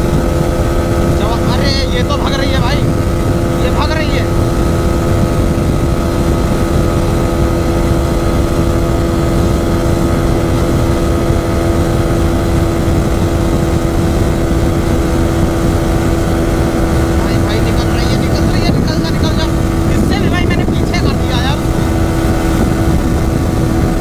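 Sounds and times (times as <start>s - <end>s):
motorcycle engine at high revs: 0.0s - 24.0s
wind rush on microphone: 0.0s - 24.0s.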